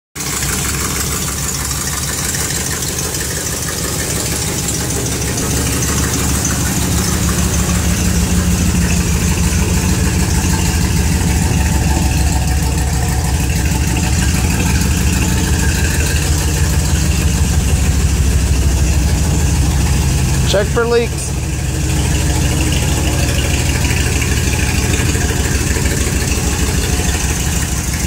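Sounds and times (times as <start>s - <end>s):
car engine idling: 0.2s - 28.0s.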